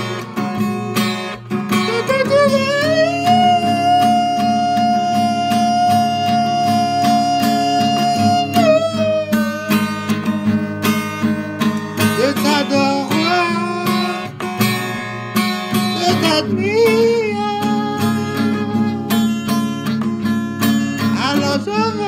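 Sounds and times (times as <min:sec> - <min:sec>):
man singing long notes: 0:01.7 - 0:15.0, 0:15.7 - 0:22.0.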